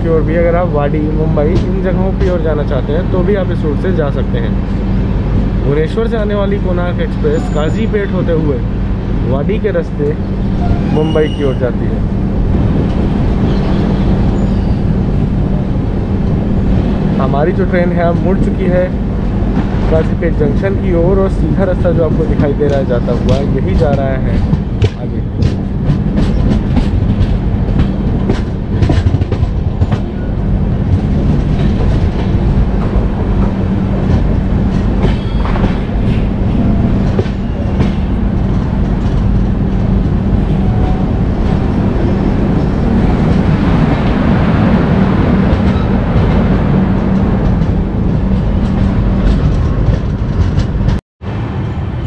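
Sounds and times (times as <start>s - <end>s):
train wheels rumbling on rail: 0.0s - 52.0s
wind rush: 0.0s - 52.0s.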